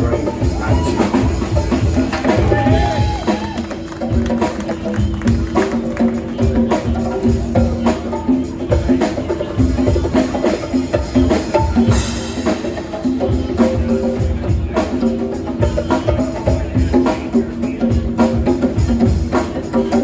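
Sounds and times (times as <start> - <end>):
drums keeping a steady beat: 0.0 - 20.0.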